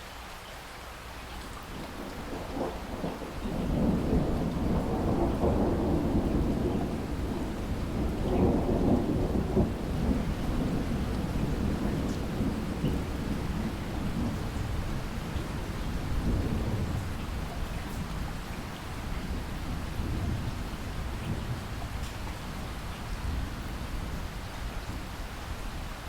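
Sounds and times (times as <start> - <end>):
steady rain: 0.0 - 26.0
thunder rolling: 1.7 - 25.1.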